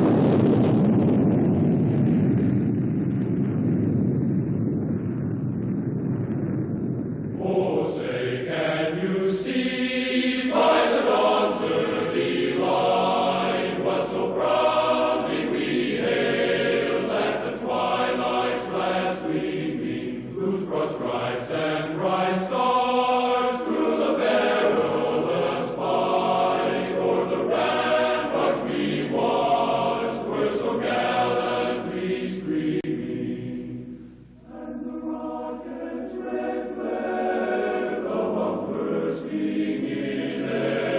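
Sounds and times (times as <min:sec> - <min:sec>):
choir singing held chords: 0:07.3 - 0:40.9.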